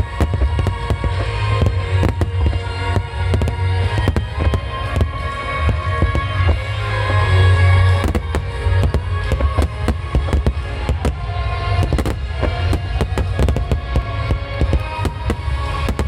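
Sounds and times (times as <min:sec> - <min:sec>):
deep rumble: 0:00.0 - 0:16.0
fireworks cracking and banging: 0:00.0 - 0:16.0
music playing: 0:00.0 - 0:16.0.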